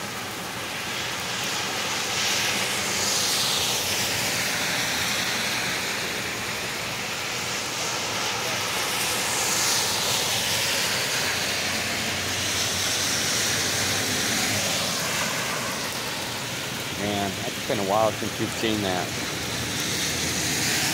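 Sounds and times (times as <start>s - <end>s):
car tyres on wet road: 0.0s - 20.9s
heavy rain on pavement: 0.0s - 20.9s.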